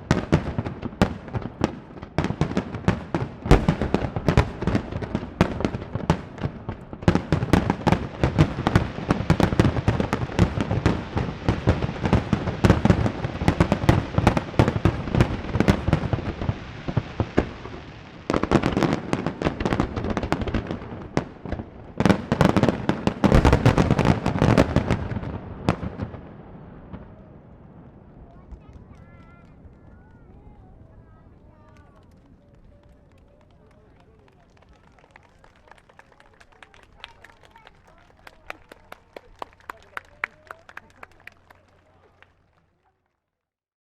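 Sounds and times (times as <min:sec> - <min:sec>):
fireworks bangs and crackling: 0:00.0 - 0:42.6.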